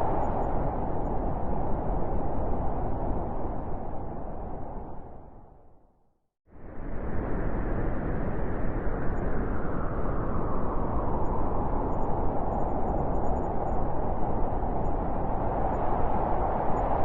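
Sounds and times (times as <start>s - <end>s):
blizzard wind blowing: 0.0s - 5.8s, 6.5s - 17.0s.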